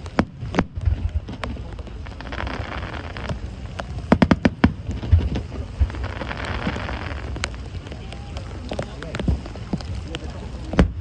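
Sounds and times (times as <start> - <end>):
fireworks crackling: 0.0 - 11.0
fireworks cracks: 0.0 - 11.0
low rumbling booms: 0.0 - 11.0.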